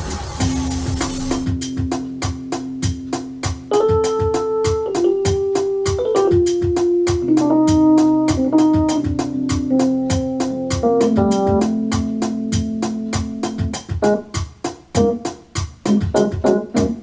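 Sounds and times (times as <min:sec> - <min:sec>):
electronic organ music: 0:00.0 - 0:17.0
steady beat: 0:00.0 - 0:17.0.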